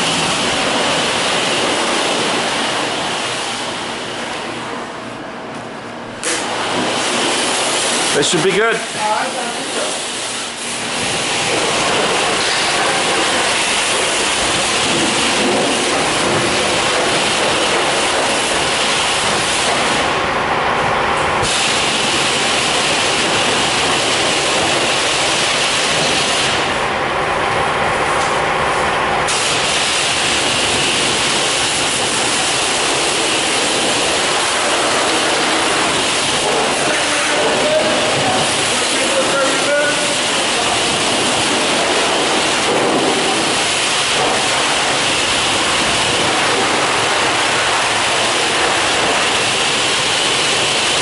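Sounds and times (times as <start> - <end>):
pressure washer spraying water: 0.0 - 4.6, 6.2 - 20.3, 21.2 - 26.8, 29.2 - 51.0.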